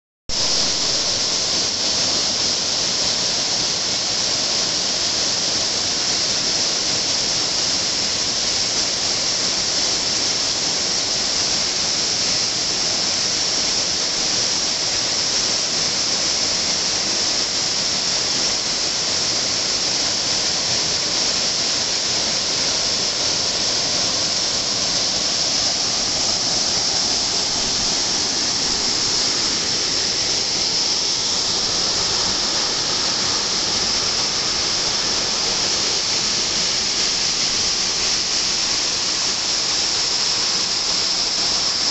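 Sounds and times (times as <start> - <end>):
waterfall splashing into pool: 0.3 - 41.9.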